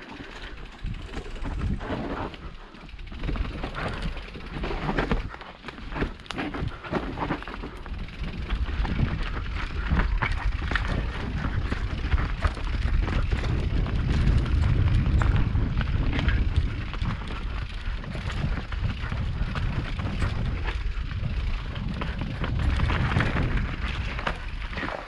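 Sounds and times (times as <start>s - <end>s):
bike rattling and clacking: 0.0s - 25.0s
wind rumbling on microphone: 0.0s - 25.0s
tyres rolling over dirt: 3.1s - 25.0s.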